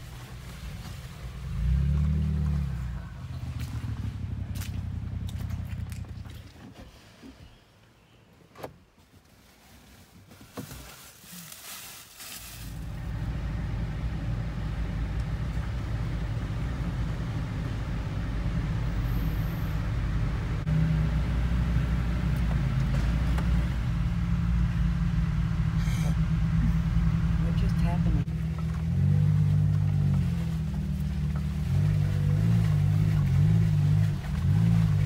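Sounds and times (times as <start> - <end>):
engine low rumble inside vehicle: 0.0 - 7.6, 12.2 - 35.0.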